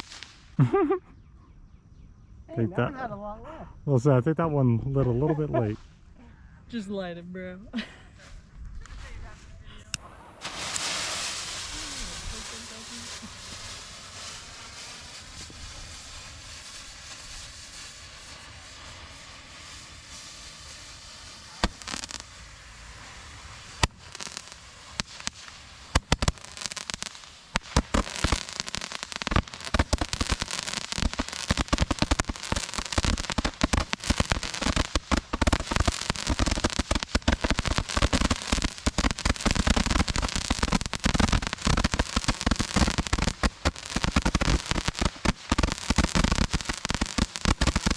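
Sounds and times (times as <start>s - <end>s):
firework hiss: 0.0s - 0.7s, 5.1s - 6.1s, 8.2s - 47.9s
fireworks popping and crackling: 0.0s - 0.7s, 5.0s - 6.1s, 8.2s - 47.9s.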